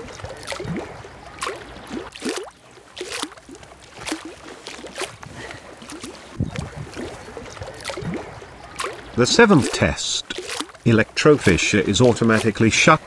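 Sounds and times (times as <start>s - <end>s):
water lapping and gurgling: 0.0s - 13.0s.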